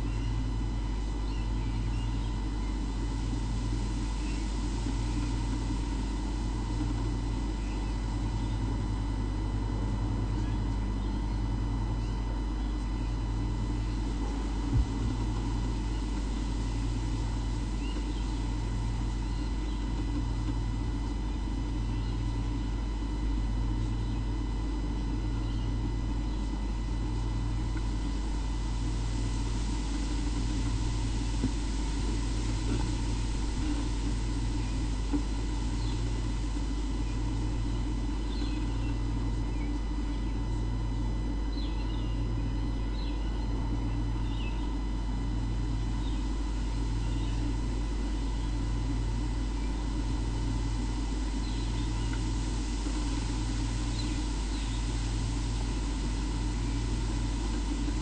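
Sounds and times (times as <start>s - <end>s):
steady hum with pulsing throb: 0.0s - 58.0s.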